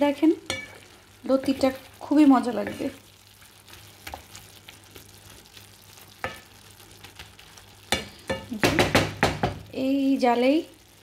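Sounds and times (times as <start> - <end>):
faint sizzle: 0.0 - 11.0.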